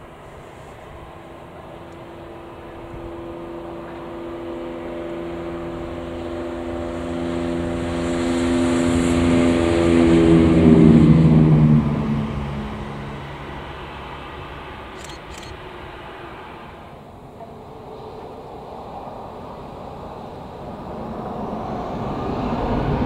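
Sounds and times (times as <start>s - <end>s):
diesel train passing: 0.0s - 23.0s.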